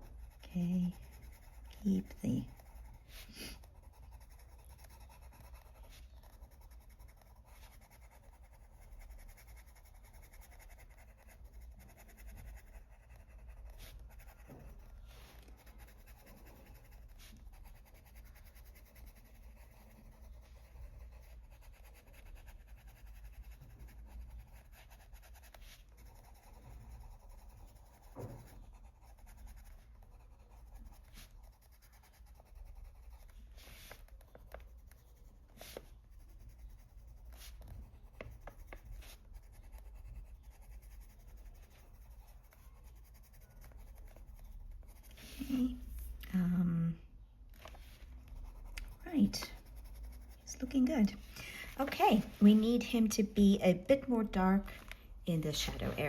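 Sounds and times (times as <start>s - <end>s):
pencil scratching on paper: 0.0s - 46.4s, 47.5s - 54.6s, 55.3s - 56.0s.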